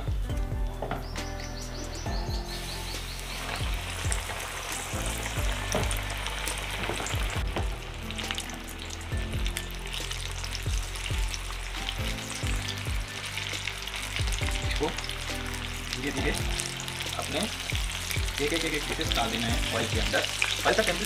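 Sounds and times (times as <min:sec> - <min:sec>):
chicken sizzling in hot oil: 0:01.0 - 0:21.0.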